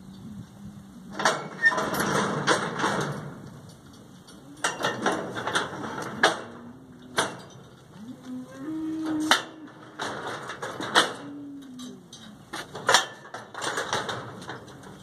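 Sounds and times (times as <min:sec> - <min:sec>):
steel panels rattling and clanking: 0:01.1 - 0:08.0, 0:09.0 - 0:15.0.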